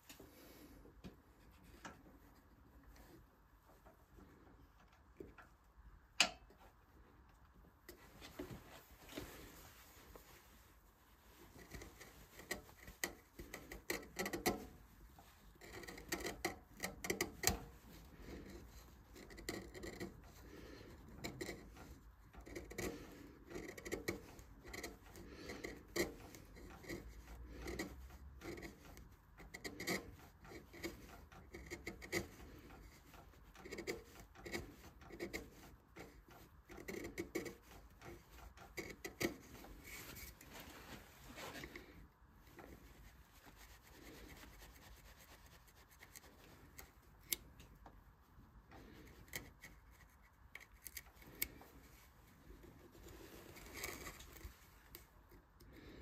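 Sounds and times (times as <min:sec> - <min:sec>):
carving tool scraping wood: 0:08.0 - 0:47.7, 0:48.6 - 0:56.0.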